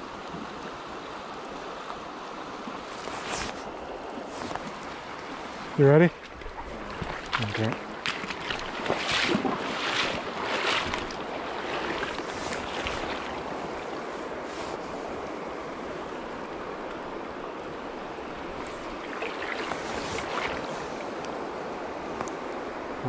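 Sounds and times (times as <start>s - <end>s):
creek water running over rocks: 0.0s - 23.0s.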